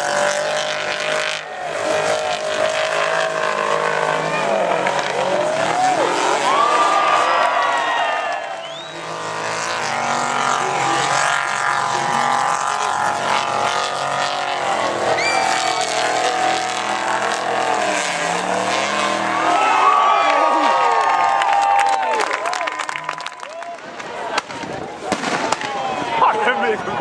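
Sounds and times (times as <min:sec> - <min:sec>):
truck engine revving: 0:00.0 - 0:25.8.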